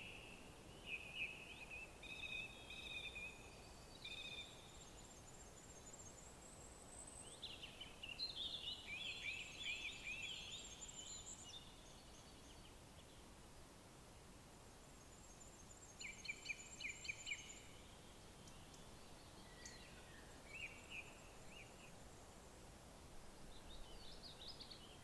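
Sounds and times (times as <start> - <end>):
songbirds singing: 0.0 - 13.3, 15.0 - 22.5, 23.4 - 25.0
steady background hiss: 0.0 - 25.0.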